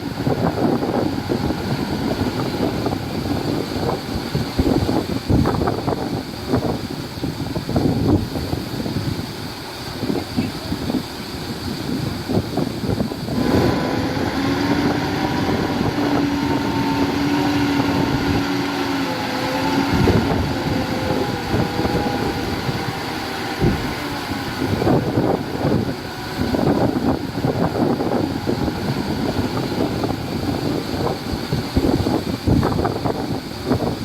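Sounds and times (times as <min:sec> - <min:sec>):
diesel construction machinery running: 0:00.0 - 0:34.0
wind noise on microphone: 0:00.0 - 0:34.0.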